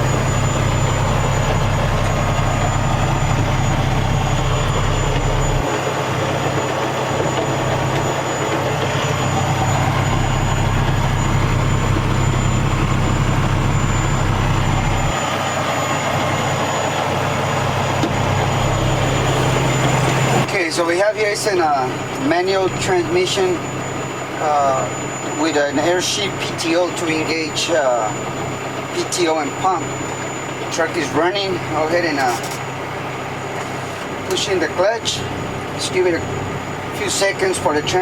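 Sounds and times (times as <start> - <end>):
truck diesel engine idling: 0.0 - 38.0.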